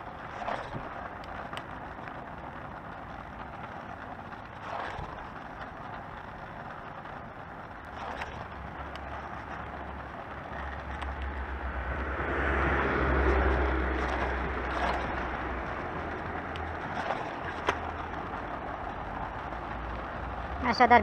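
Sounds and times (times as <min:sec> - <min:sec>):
scooter rolling over asphalt: 0:00.0 - 0:21.0.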